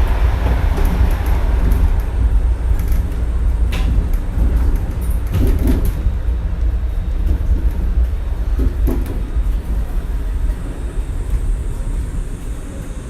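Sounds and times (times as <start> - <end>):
monorail car rumbling: 0.0 - 13.0.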